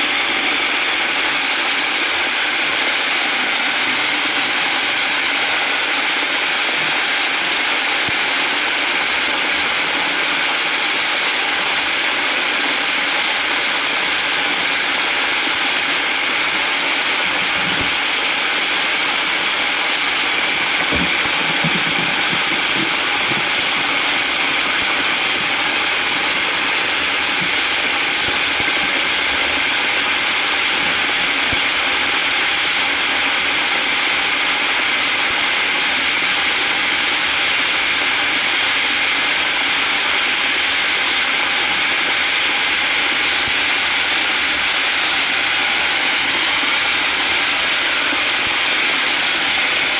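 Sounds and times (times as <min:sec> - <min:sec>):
heavy rain on vehicle roof: 0:00.0 - 0:49.9.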